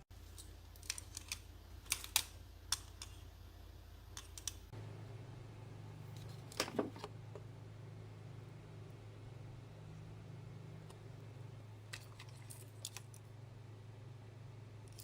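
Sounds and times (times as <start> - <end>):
faint low hum: 0.2 - 15.0.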